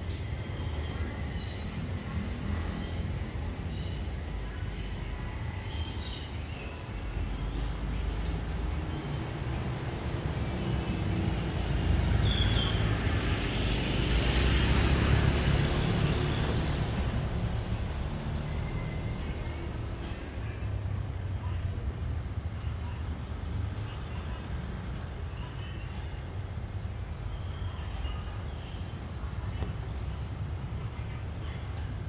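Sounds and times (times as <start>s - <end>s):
outdoor background rumble: 0.0s - 32.0s.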